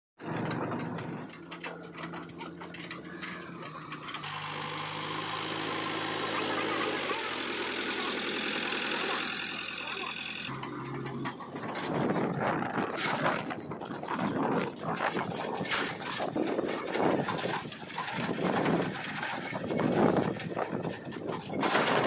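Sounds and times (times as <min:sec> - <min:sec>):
diesel engine running: 0:00.2 - 0:22.0.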